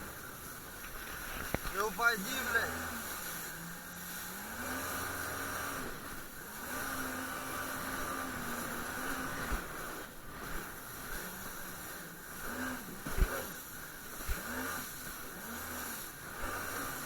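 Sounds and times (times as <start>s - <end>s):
jet ski engine: 0.0s - 17.0s
rush of wind and water: 0.0s - 17.0s.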